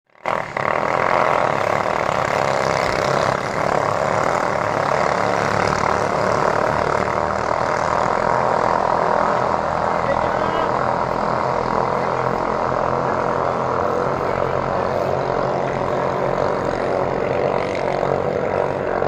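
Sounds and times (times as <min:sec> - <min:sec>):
boat engines buzzing: 0:00.1 - 0:19.0.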